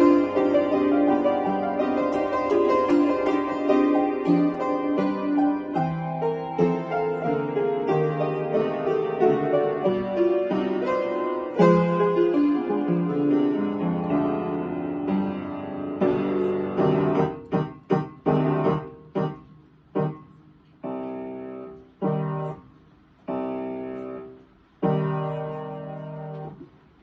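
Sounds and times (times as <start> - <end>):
upright piano chords: 0.0 - 27.0.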